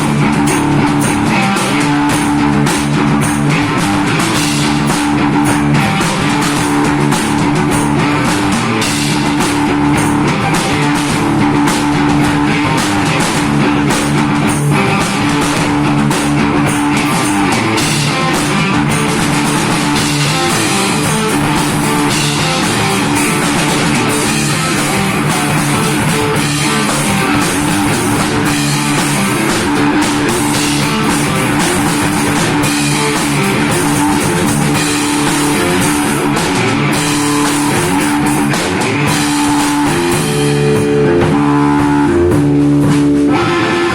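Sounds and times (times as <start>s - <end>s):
drum kit: 0.0s - 43.9s
electric guitar: 0.0s - 43.9s.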